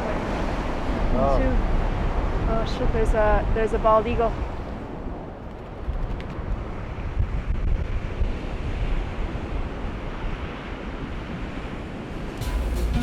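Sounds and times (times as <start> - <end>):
waves washing on shore: 0.0 - 12.4
wind buffeting microphone: 0.0 - 12.4.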